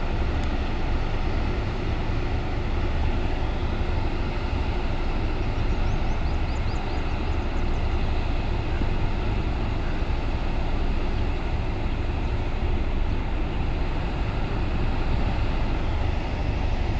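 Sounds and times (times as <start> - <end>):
drilling rig low rumble: 0.0 - 16.9.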